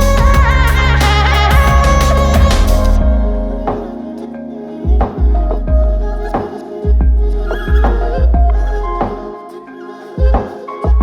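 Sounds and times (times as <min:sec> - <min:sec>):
electronic music with heavy bass: 0:00.0 - 0:09.4.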